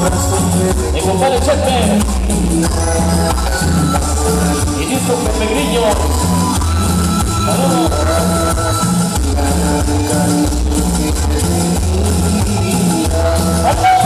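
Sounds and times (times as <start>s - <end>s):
loud dance music on sound system: 0.0s - 14.0s.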